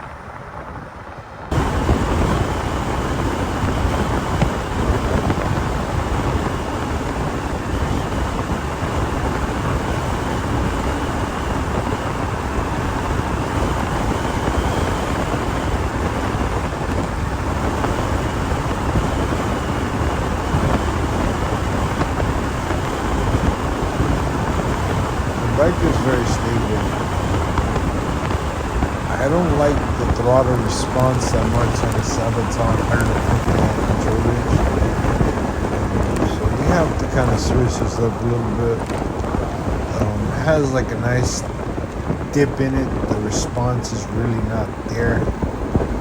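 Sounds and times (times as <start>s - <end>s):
faint high whine: 0.0s - 46.0s
wind buffeting microphone: 0.0s - 46.0s.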